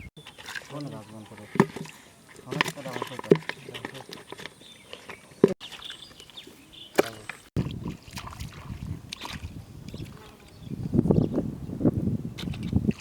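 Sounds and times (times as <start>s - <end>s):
water sloshing and splashing: 0.2s - 10.2s, 12.4s - 13.0s.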